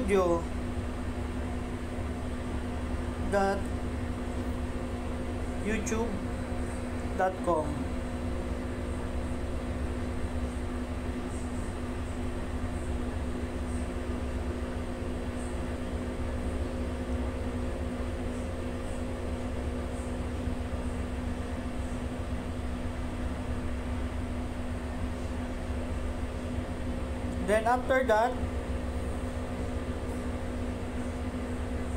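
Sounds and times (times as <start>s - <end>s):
mechanical hum: 0.0s - 31.9s.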